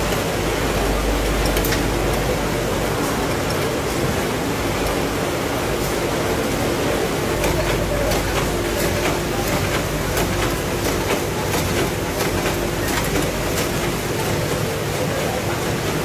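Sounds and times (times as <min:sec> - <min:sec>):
bagging machine clicking and clacking: 0:00.0 - 0:16.0
machinery humming: 0:00.0 - 0:16.0.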